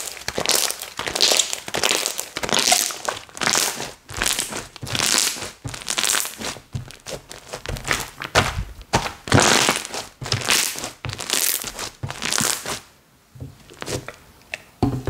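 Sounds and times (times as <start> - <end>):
slime crackling and popping: 0.0 - 12.9.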